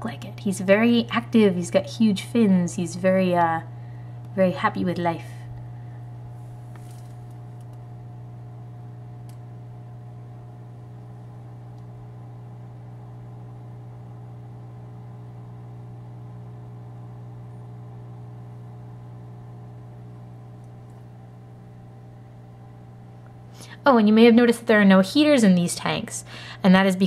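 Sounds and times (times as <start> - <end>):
aquarium equipment hum: 0.0 - 27.0.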